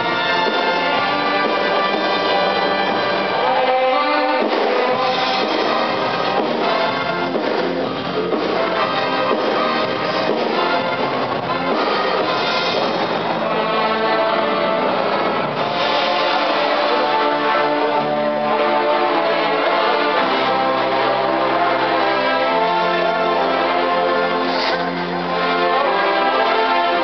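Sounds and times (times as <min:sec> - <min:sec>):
loud brass music: 0:00.0 - 0:27.0.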